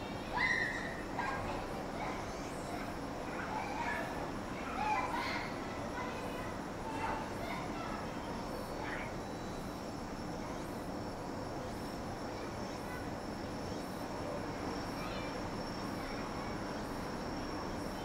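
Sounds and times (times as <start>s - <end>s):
insects trilling and chirping: 0.0s - 18.0s.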